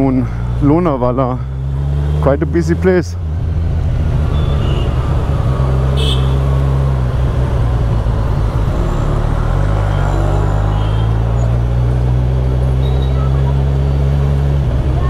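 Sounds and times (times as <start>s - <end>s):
motorcycle engine at low speed: 0.0s - 15.0s
street traffic: 0.0s - 15.0s.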